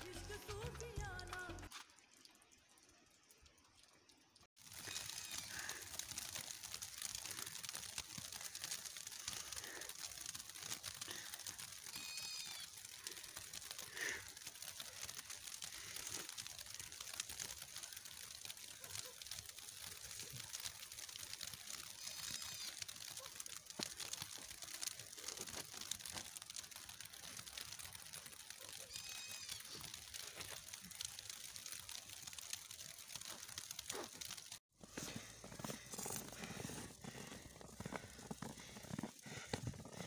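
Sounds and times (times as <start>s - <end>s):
snow falling on trees: 0.0s - 40.0s.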